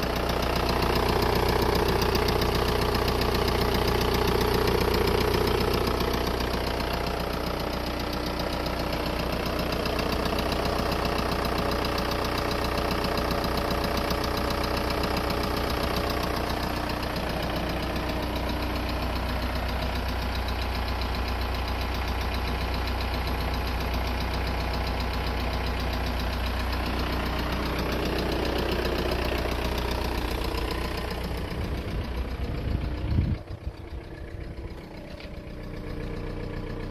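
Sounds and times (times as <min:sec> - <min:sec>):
diesel engine idling with knocking: 0:00.0 - 0:36.9.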